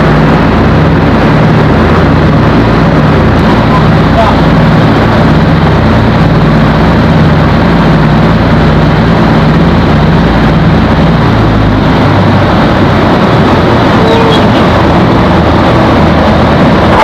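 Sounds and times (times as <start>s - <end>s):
aircraft engines droning: 0.0s - 17.0s.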